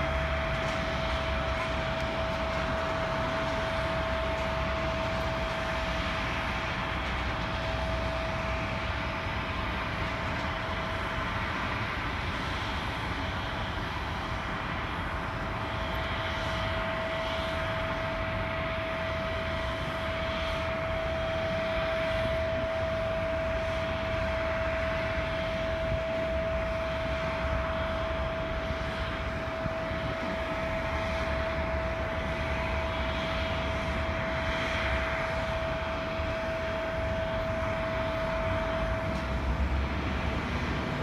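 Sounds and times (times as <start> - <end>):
faint higher whines: 0.0 - 41.0
jet engines running: 0.0 - 41.0
steady whining tone: 0.0 - 41.0.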